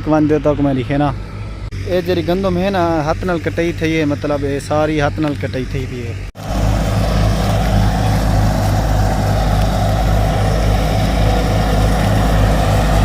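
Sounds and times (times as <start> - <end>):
engine running with low throb: 0.0 - 13.0.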